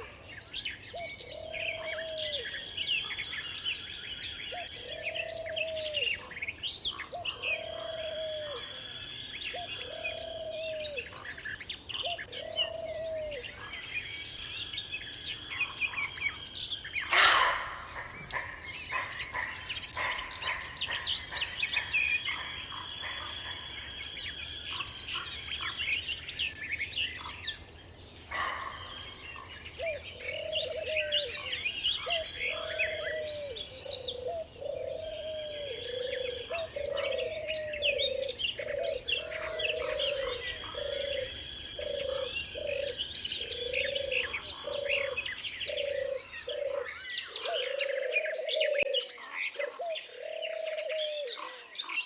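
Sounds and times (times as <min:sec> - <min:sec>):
birds chirping and singing: 0:00.0 - 0:52.0
lower bird call: 0:00.0 - 0:52.0.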